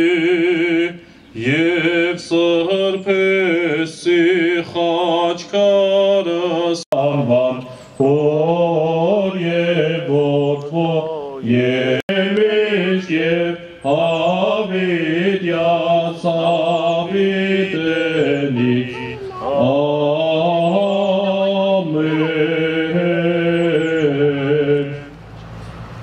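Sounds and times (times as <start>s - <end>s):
man chanting: 0.0s - 25.1s.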